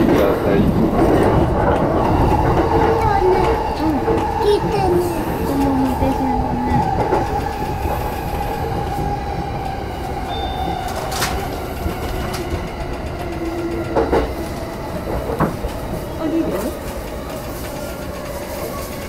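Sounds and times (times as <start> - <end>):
train rumble with motor tones: 0.0 - 19.0.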